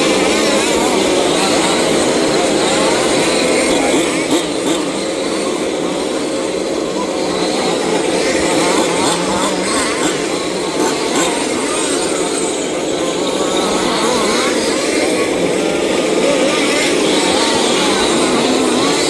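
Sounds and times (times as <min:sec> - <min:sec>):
rc car engines revving: 0:00.0 - 0:19.0.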